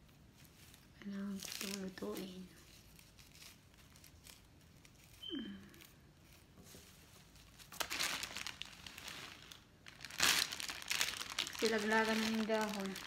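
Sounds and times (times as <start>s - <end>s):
leafy stems rustling: 0.0s - 13.0s.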